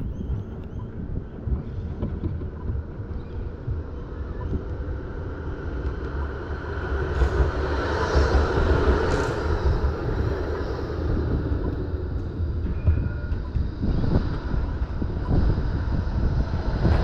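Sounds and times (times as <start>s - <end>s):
traffic noise: 0.0s - 17.0s
wind rumbling on microphone: 0.0s - 17.0s.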